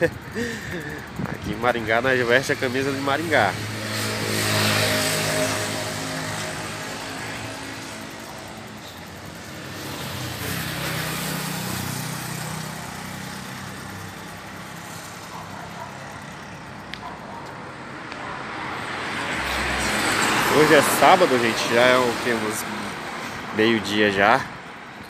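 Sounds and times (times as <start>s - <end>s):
cars passing: 0.0s - 25.0s
steady road hum: 0.0s - 25.0s.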